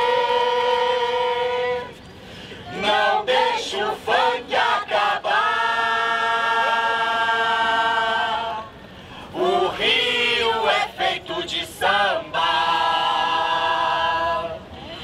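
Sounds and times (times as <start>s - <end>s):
group of voices singing: 0.0s - 14.8s.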